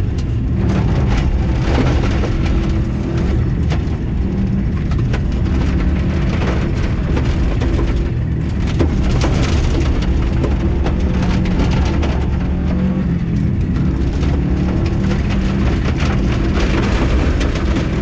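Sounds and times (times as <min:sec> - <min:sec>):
gravel knocking against car underbody: 0:00.0 - 0:18.0
rally car engine running hard: 0:00.0 - 0:18.0.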